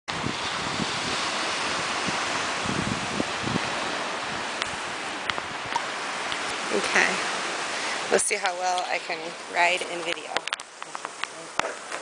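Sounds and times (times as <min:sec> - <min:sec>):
rushing wind: 0:00.1 - 0:12.0
wind buffeting microphone: 0:00.1 - 0:12.0.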